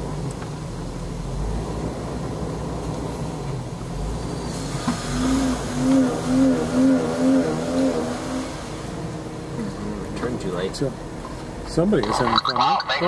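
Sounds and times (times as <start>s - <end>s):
off-road vehicle engine running: 0.0s - 13.0s
engine revving: 1.0s - 13.0s.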